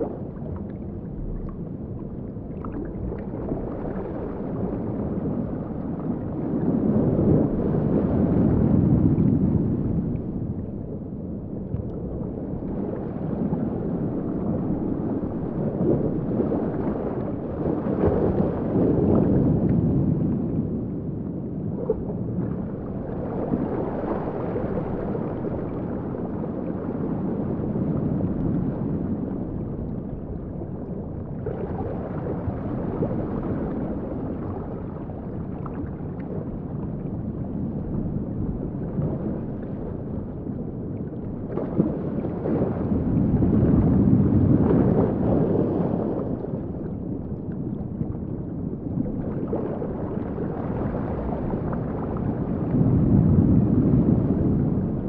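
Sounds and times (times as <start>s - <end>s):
muffled underwater wash: 0.0s - 55.0s.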